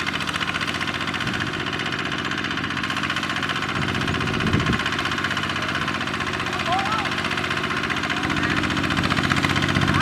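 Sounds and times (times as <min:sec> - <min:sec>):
diesel engine chugging: 0:00.0 - 0:10.0.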